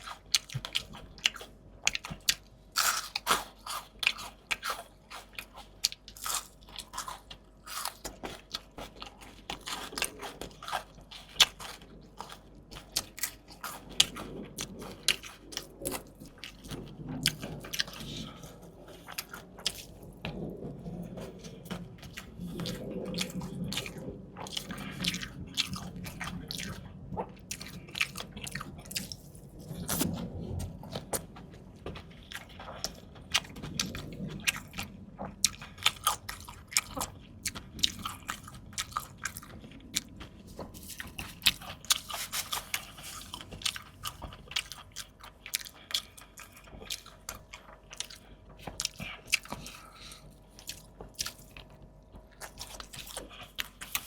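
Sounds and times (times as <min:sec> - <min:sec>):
crunchy food chewing: 0:00.0 - 0:54.0.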